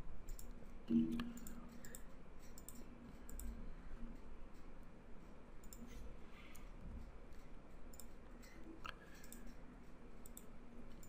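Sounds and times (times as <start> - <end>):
computer mouse clicking: 0.2 - 4.7, 5.6 - 9.6, 10.2 - 11.0.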